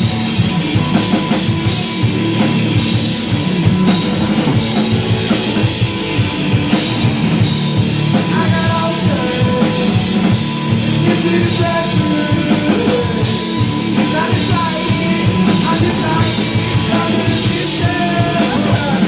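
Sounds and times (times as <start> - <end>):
drum kit hitting: 0.0 - 19.0
rock band playing live: 0.0 - 19.0.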